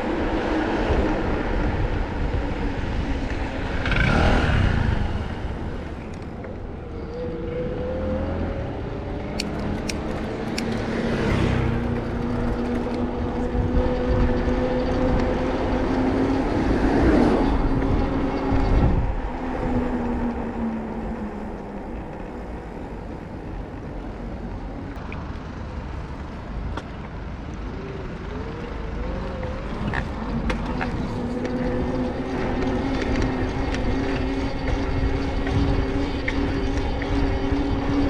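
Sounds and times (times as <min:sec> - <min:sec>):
low road rumble: 0:00.0 - 0:38.0
vehicle engine hum: 0:00.0 - 0:38.0.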